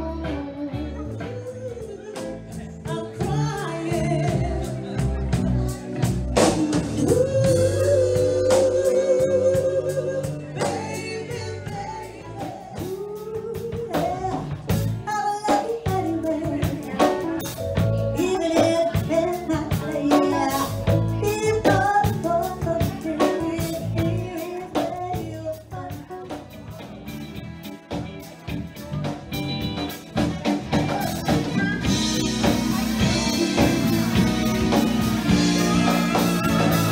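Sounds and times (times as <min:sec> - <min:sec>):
woman singing: 0:00.0 - 0:26.9, 0:30.9 - 0:36.9
live band playing: 0:00.0 - 0:36.9.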